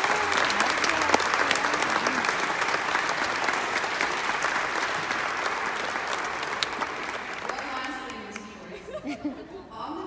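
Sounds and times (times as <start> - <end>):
audience applause: 0.0 - 8.3.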